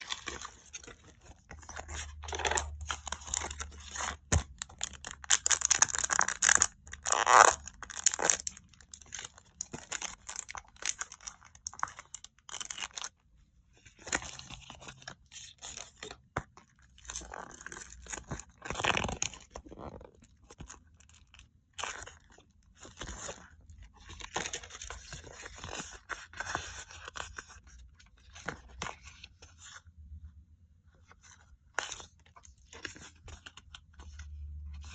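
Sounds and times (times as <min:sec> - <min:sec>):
paper and plastic crinkling and tearing: 0:00.0 - 0:13.2, 0:13.9 - 0:29.8.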